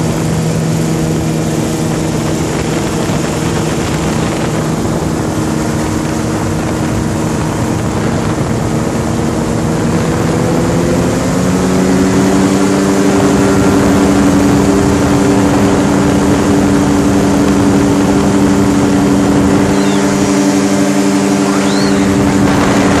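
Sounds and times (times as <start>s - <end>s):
engine and propeller drone: 0.0s - 23.0s.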